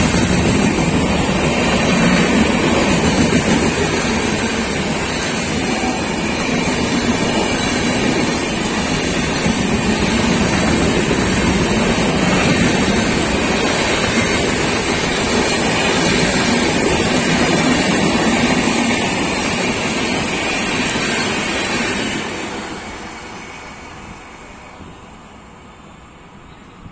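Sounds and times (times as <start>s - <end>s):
train wheels rushing on rails: 0.0s - 26.9s.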